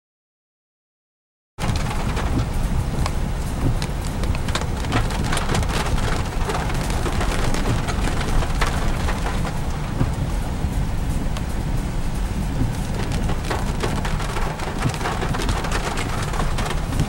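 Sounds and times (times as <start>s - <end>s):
car rolling low rumble: 1.6s - 17.0s
heavy rain on car roof: 1.6s - 17.0s.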